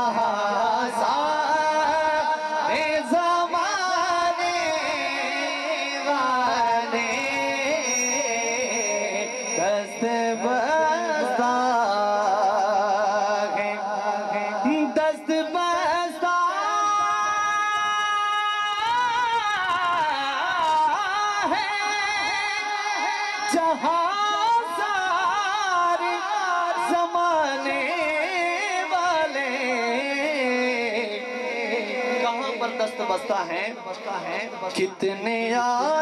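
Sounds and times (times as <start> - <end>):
man singing into microphone: 0.0 - 36.0.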